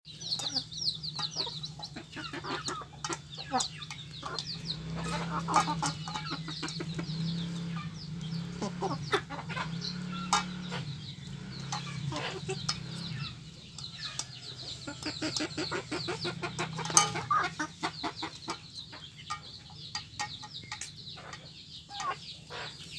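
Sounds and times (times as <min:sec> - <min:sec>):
chicks peeping: 0:00.1 - 0:22.9
hens clucking: 0:00.1 - 0:22.9.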